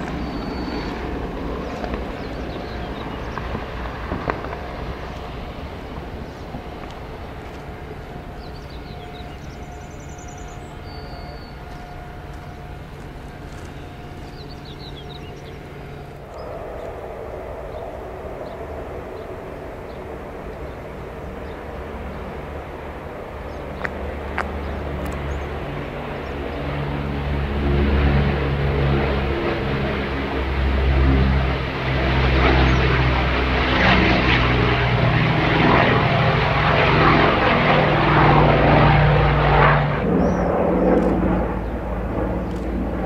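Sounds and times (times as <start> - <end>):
distant propeller plane drone: 0.0 - 43.0
propeller airliner passing low: 0.0 - 43.0.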